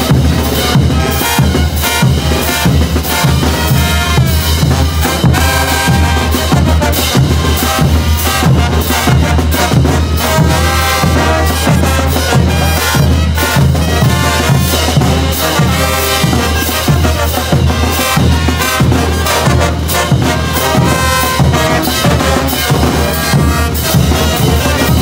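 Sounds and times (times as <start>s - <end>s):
brass band playing: 0.0s - 25.0s
drums and cymbals beat: 0.0s - 25.0s.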